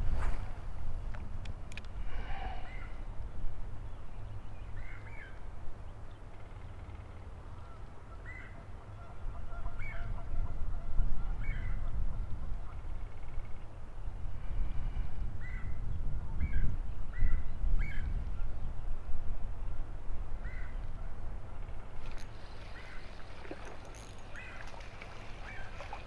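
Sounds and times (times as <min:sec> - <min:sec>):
low wind rumble on microphone: 0:00.0 - 0:26.0.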